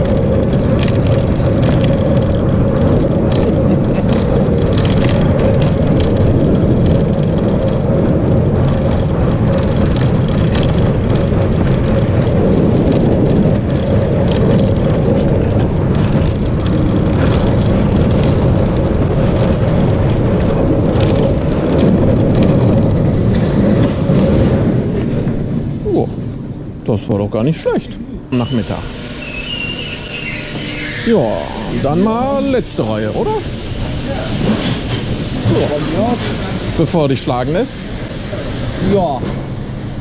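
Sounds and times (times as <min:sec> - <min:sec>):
roller coaster wheels rumbling: 0:00.0 - 0:40.0.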